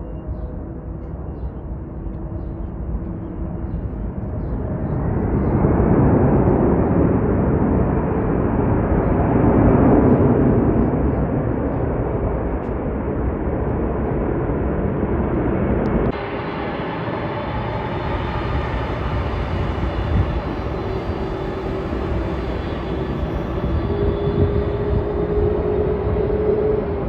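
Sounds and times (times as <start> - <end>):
jet engine roar: 0.5 - 27.0.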